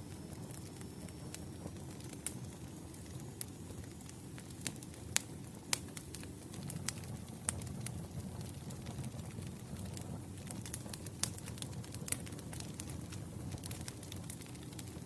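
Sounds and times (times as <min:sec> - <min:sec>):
burning logs crackling and popping: 0:00.0 - 0:15.0
campfire flames rumbling: 0:00.3 - 0:15.0.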